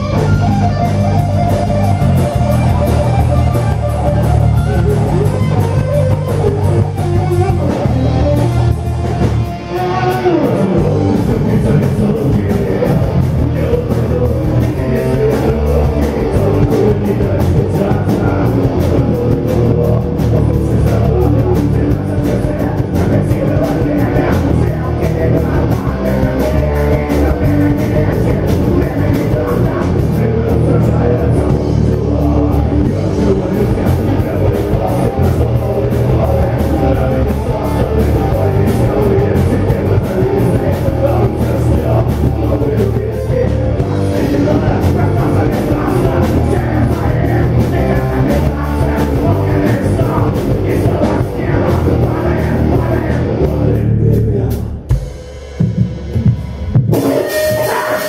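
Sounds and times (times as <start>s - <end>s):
electric guitar: 0.0s - 55.1s, 56.4s - 58.0s
bass guitar: 0.0s - 58.0s
drums: 0.0s - 58.0s.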